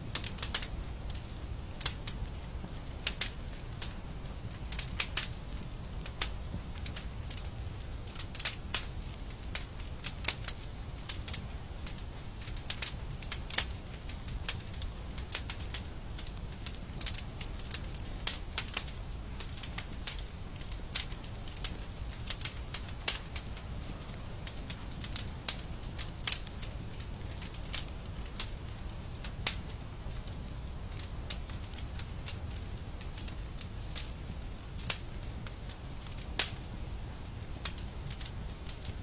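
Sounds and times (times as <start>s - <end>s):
wood fire crackling in fireplace: 0.0s - 39.0s.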